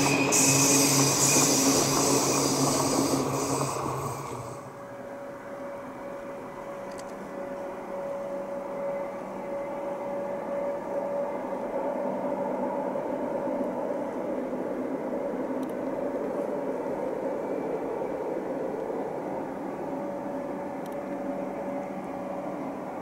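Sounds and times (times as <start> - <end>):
distant train wheels rumbling: 0.0 - 23.0.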